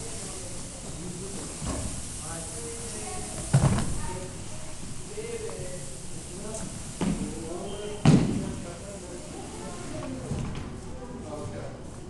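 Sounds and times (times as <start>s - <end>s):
faint echoing voices: 0.0s - 12.0s.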